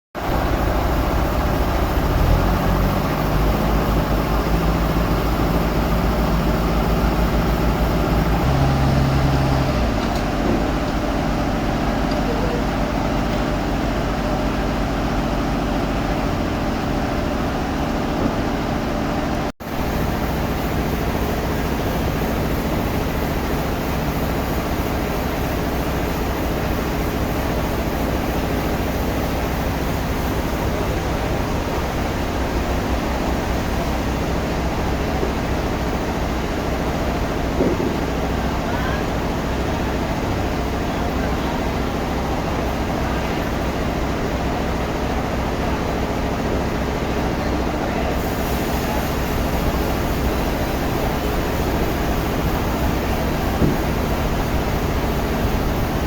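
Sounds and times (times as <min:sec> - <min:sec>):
sawmill machinery running: 0:00.2 - 0:56.0.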